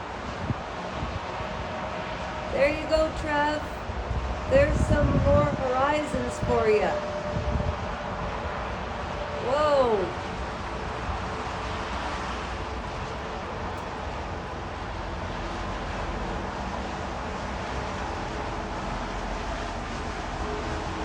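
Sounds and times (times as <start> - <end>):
outdoor background noise: 0.0 - 21.0
low rumble: 2.4 - 21.0.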